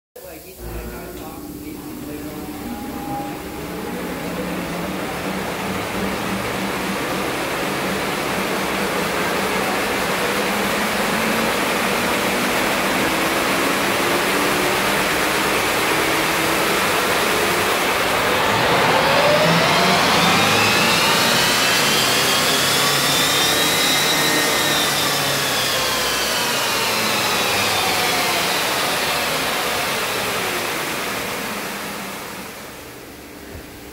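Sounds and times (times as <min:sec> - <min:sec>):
race car on dyno rollers: 0:00.5 - 0:33.9
electric motor whine: 0:00.6 - 0:33.7.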